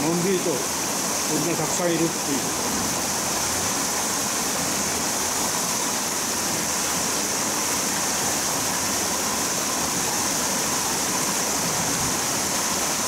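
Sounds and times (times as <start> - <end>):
small waterfall rushing: 0.0 - 13.0.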